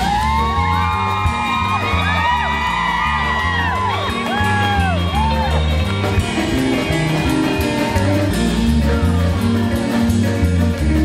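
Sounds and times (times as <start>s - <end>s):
audience whooping: 0.0s - 9.6s
rock band playing: 0.0s - 11.0s.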